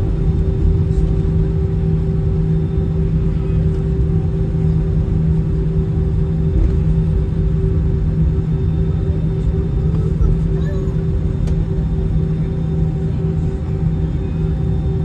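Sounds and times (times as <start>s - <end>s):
aircraft cabin rumble: 0.0s - 15.0s
constant low hum: 0.0s - 15.0s.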